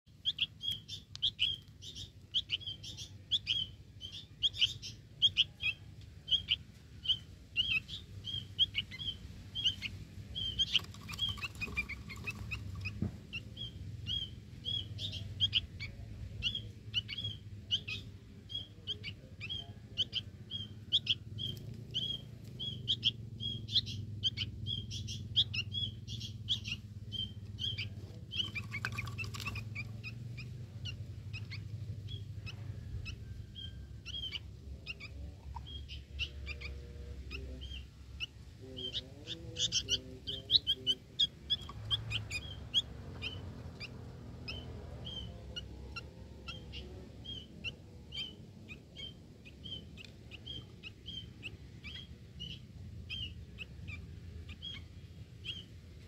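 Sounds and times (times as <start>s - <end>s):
bird chirping: 0.1s - 56.0s.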